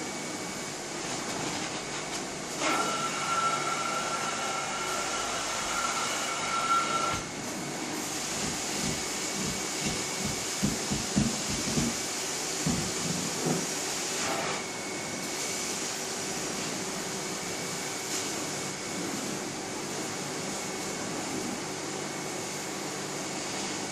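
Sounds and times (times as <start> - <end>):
carpet cleaning machine vacuum: 0.0 - 23.9.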